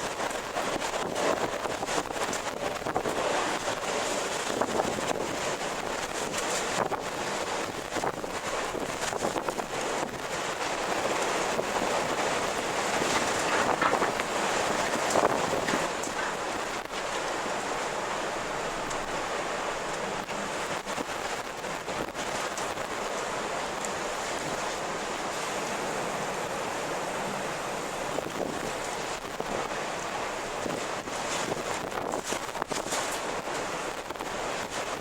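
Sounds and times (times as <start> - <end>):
strong wind blowing: 0.0 - 35.0.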